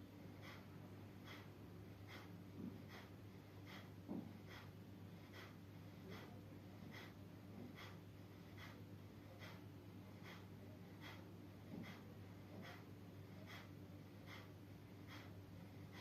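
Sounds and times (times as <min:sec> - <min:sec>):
faint rhythmic breathing: 0:00.0 - 0:16.0
low steady hum: 0:00.0 - 0:16.0.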